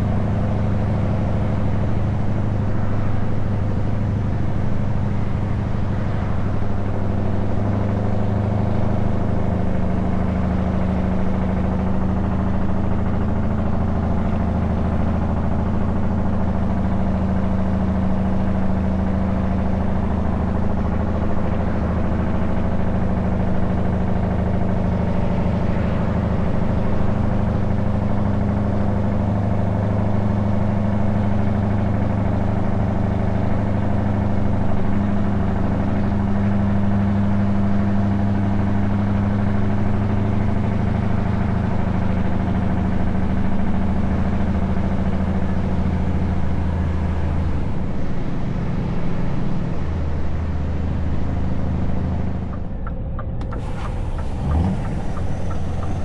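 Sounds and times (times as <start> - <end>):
truck diesel engine droning: 0.0 - 31.7, 39.0 - 56.0.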